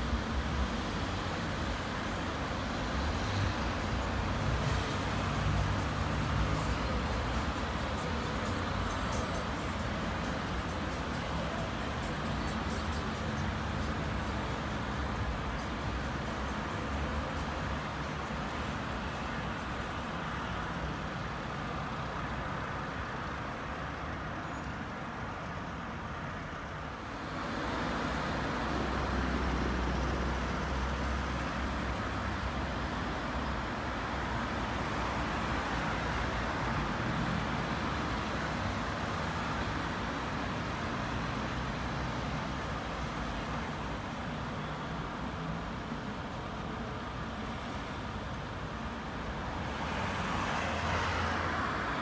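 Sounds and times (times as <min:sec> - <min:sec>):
low traffic rumble: 0:00.0 - 0:52.0
passing cars: 0:00.0 - 0:52.0.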